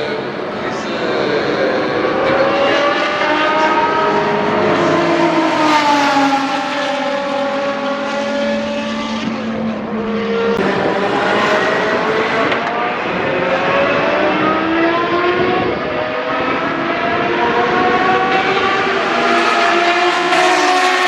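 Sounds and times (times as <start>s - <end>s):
race car engine passing by: 1.3s - 21.0s.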